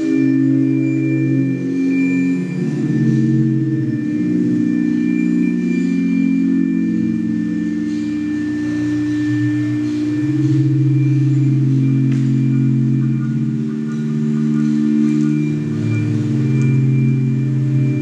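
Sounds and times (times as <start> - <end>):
ambient drone music: 0.0 - 18.0.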